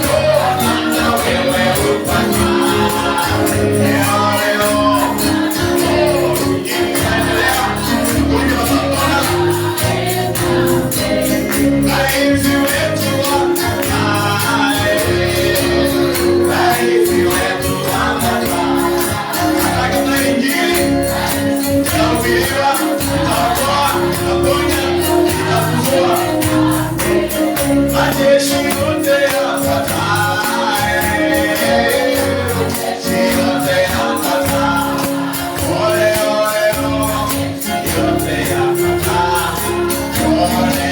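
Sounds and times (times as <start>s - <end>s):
group of voices singing gospel: 0.0s - 40.9s
tambourine beating: 0.0s - 40.9s.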